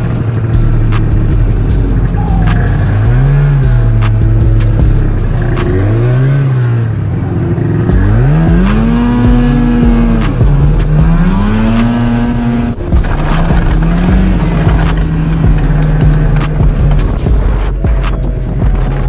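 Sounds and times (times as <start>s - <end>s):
snowmobile engine revving: 0.0s - 17.8s.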